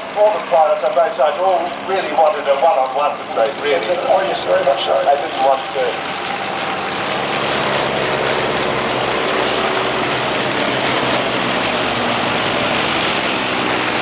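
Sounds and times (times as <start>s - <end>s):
propeller plane engines droning: 0.0s - 14.0s.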